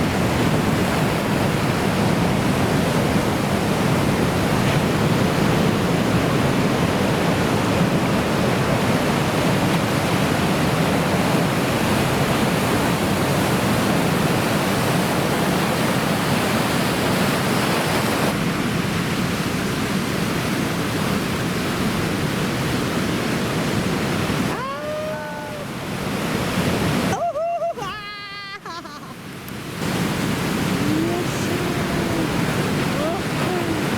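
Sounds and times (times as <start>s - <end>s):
heavy surf roaring: 0.0s - 33.9s.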